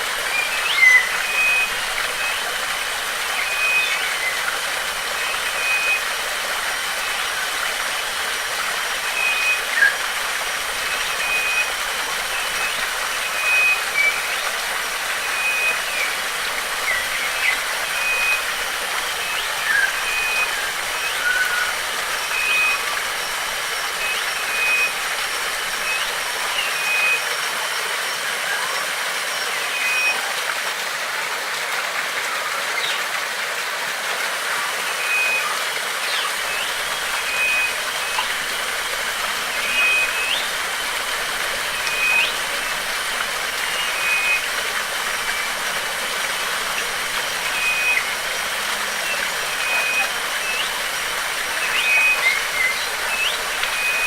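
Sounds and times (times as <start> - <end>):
birds chirping: 0.0 - 27.2, 35.0 - 54.0
water rushing: 0.0 - 54.0.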